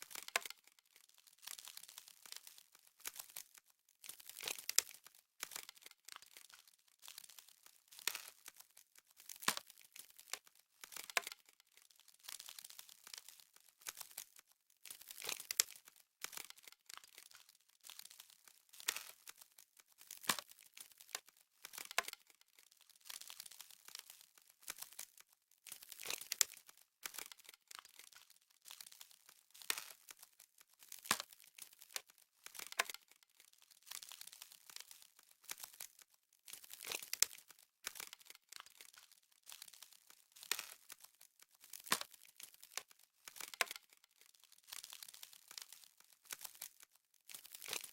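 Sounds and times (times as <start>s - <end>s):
frost crackling and crunching: 0.0s - 47.9s.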